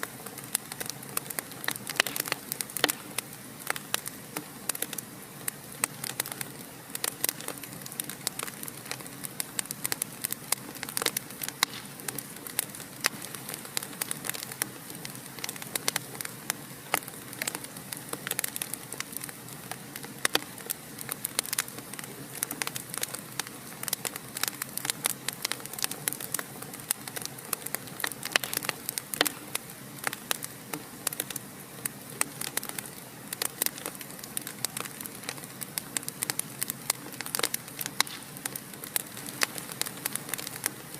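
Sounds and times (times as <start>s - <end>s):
fire crackling and popping: 0.0s - 40.9s
low hiss of burning: 0.0s - 40.9s.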